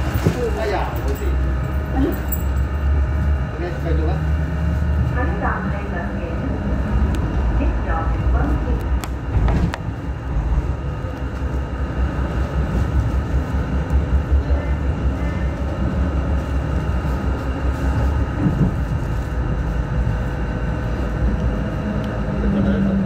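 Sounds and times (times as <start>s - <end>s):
wheels rumbling on rails: 0.0s - 23.0s.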